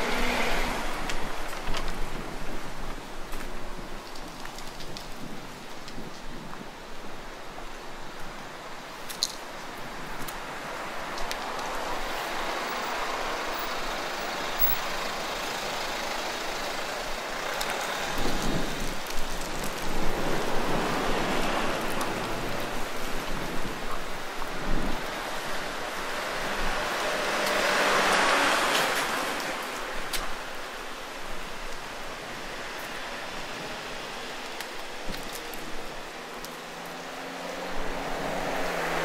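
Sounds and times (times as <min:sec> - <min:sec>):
vehicles passing on street: 0:00.0 - 0:39.0.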